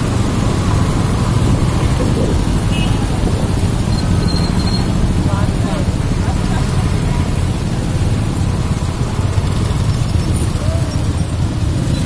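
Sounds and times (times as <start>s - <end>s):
motorcycle and car engines rumbling: 0.0s - 12.0s.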